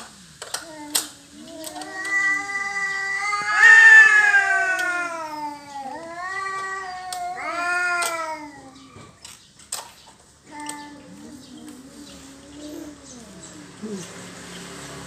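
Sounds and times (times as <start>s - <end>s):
cats yowling: 0.6s - 9.2s, 10.4s - 14.2s.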